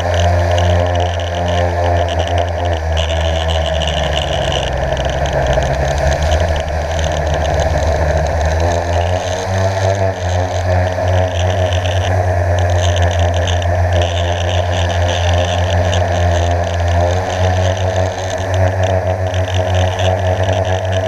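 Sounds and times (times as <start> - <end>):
quadcopter propellers whirring: 0.0 - 21.0.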